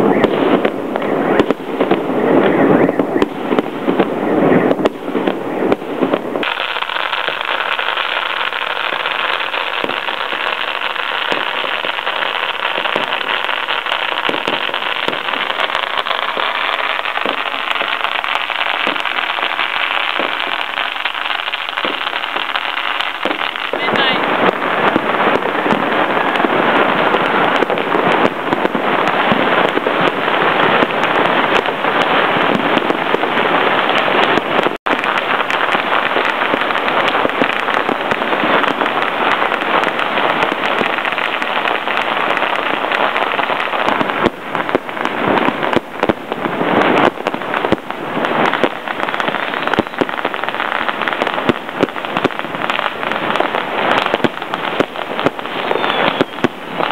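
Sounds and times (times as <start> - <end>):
firecrackers crackling and banging: 0.0 - 56.9.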